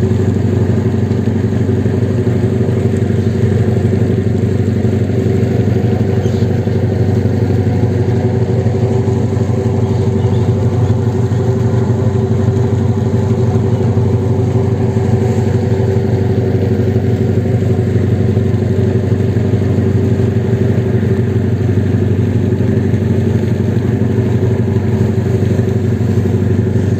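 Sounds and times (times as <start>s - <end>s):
engine humming steadily: 0.0s - 26.9s.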